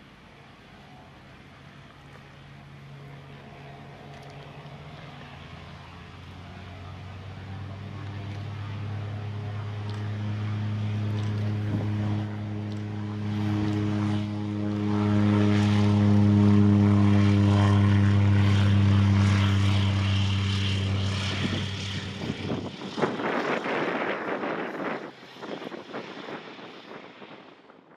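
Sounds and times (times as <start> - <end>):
propeller plane engine droning: 0.0 - 27.9.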